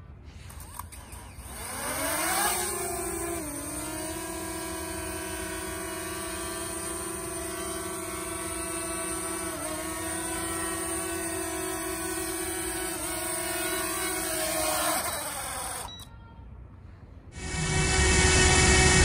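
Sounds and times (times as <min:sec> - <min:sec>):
drone propellers whining: 0:00.5 - 0:16.1, 0:17.3 - 0:19.0.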